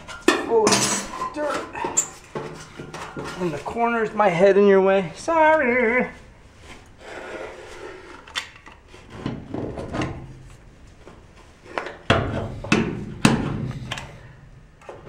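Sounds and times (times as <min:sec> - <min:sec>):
rubbing and handling noise: 0:00.0 - 0:15.0.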